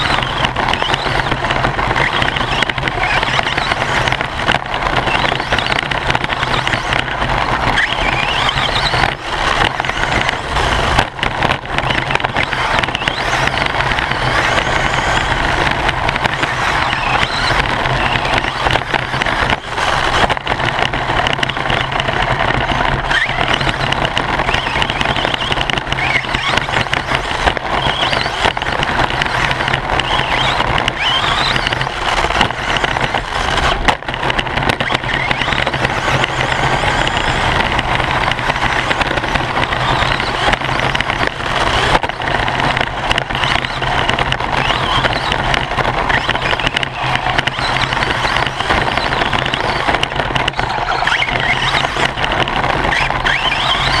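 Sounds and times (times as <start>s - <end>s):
motor and drivetrain whine: 0.0s - 54.0s
tyre and chassis noise: 0.0s - 54.0s.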